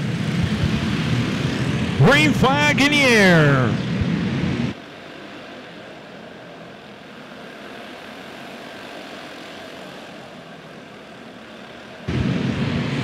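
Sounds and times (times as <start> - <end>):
racing karts engines droning: 0.0 - 13.0.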